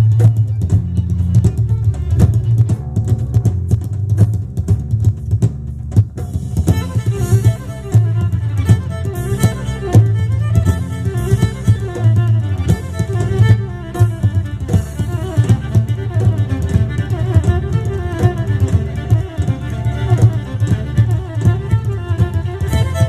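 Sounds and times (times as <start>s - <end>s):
violin melody: 0.0s - 3.4s, 6.6s - 23.0s
deep bass: 0.0s - 23.0s
regular beat: 0.0s - 23.0s.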